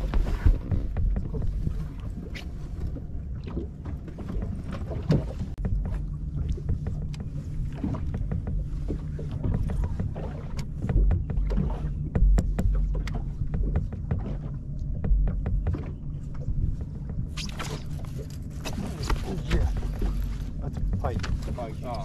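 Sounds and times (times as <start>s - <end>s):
choppy water against boat hull: 0.0s - 22.0s
wind buffeting microphone: 0.0s - 22.0s.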